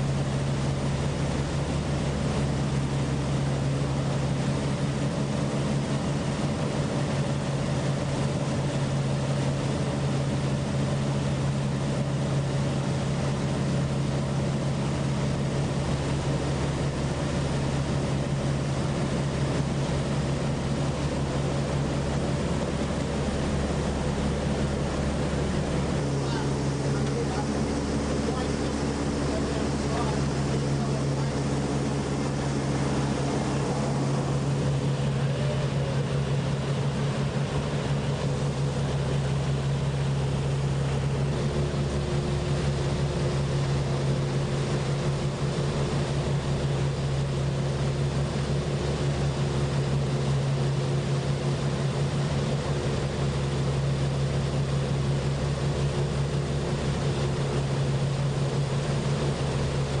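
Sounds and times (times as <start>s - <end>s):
rushing water and wind: 0.0s - 60.0s
watercraft engine droning: 0.0s - 60.0s.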